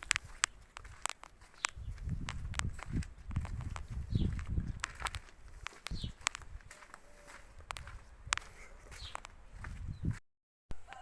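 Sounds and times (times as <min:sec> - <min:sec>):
footsteps crunching underfoot: 0:00.0 - 0:11.0.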